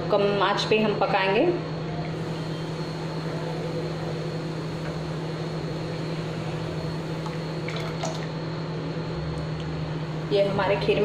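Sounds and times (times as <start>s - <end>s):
gas burner hissing: 1.3s - 11.0s.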